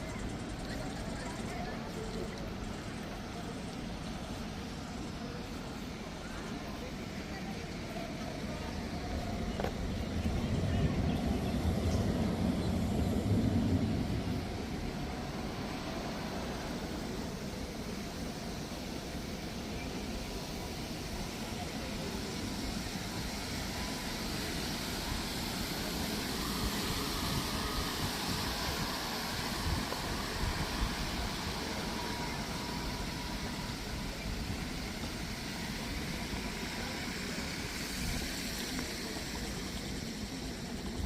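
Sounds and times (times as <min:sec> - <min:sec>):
traffic on wet street: 0:00.1 - 0:41.0.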